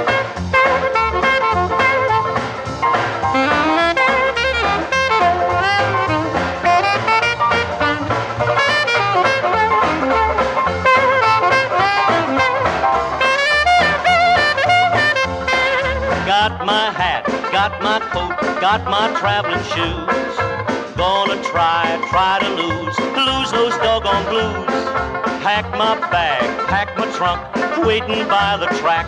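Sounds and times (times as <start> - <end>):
instrumental band music from record: 0.0 - 29.0.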